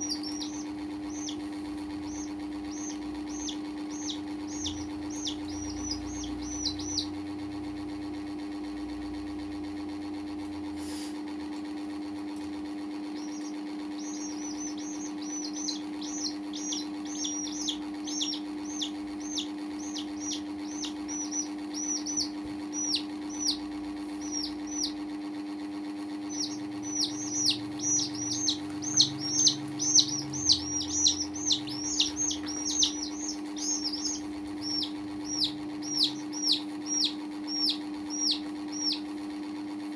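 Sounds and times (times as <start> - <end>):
baby chicks peeping: 0.0 - 10.1, 13.0 - 39.9
steady low hum: 0.0 - 39.9.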